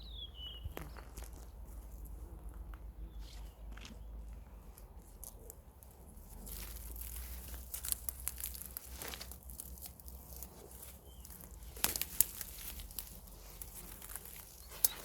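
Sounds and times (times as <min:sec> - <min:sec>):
plants rustling and crackling: 0:00.5 - 0:15.0.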